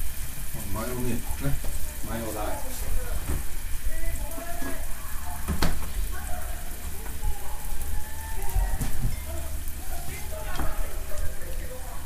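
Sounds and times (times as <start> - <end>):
food sizzling on hot plate: 0.0 - 12.0.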